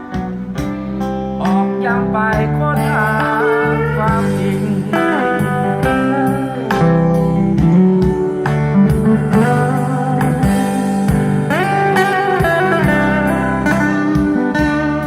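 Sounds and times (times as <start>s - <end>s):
guitar-led folk music: 0.0s - 15.0s.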